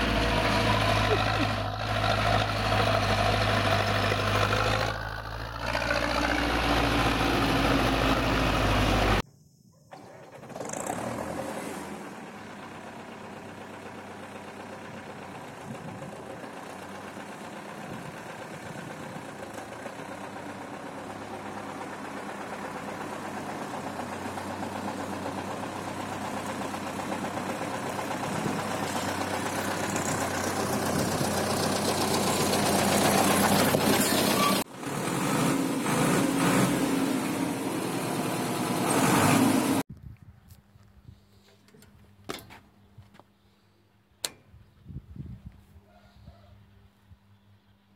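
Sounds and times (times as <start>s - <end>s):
tractor diesel engine running: 0.0s - 9.2s, 10.0s - 39.8s.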